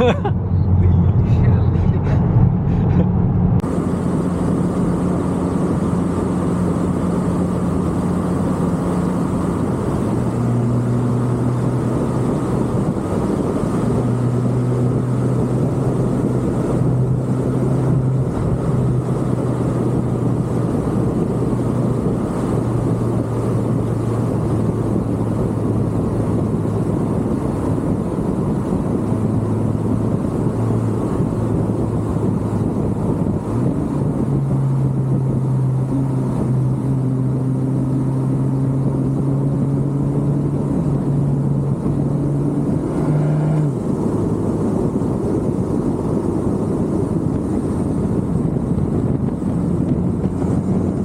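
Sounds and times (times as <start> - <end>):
car engine and road noise: 0.0 - 51.0.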